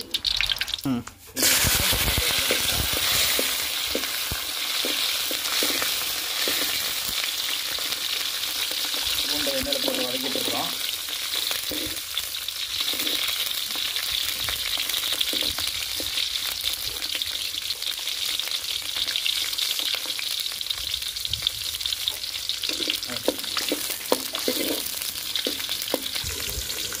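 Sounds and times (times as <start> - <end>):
garlic sizzling in hot oil: 0.0 - 27.0.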